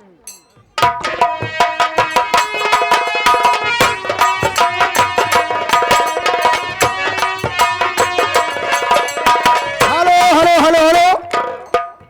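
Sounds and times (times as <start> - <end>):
fast hand-drum strokes: 0.7 - 12.0.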